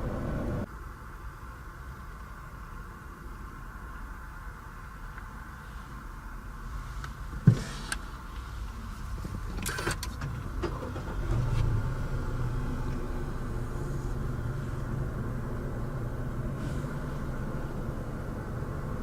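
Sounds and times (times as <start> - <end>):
steady low hum: 0.0 - 9.4, 10.4 - 19.0
rustle inside a car: 0.0 - 19.0.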